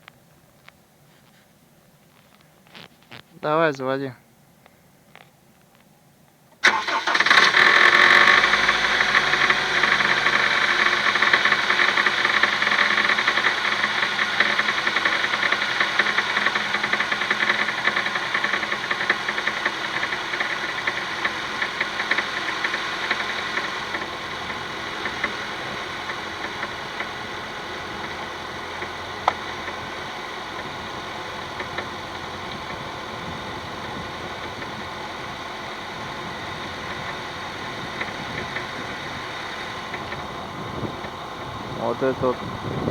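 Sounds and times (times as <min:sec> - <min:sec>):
car engine idling: 0:06.6 - 0:42.9
engine tapping knock: 0:07.8 - 0:42.9.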